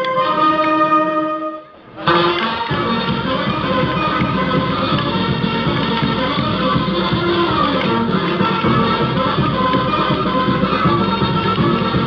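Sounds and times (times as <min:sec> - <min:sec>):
folk dance music: 0:00.0 - 0:12.0.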